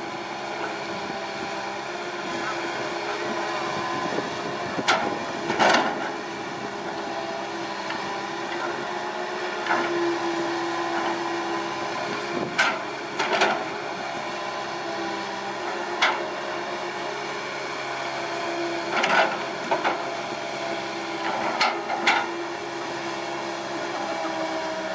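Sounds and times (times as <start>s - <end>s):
excavator diesel engine running: 0.0s - 24.9s
hydraulic whine: 0.0s - 24.9s.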